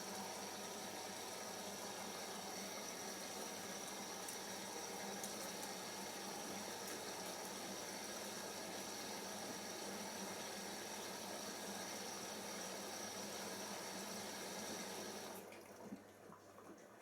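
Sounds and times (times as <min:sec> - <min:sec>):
water rushing into washing machine: 0:00.0 - 0:17.0.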